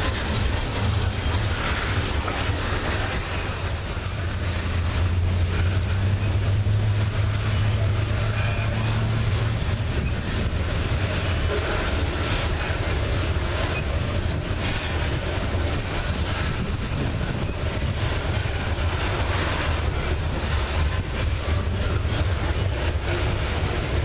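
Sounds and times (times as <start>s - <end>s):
continuous rumbling: 0.0s - 24.0s
locomotive engine drone: 0.0s - 24.0s.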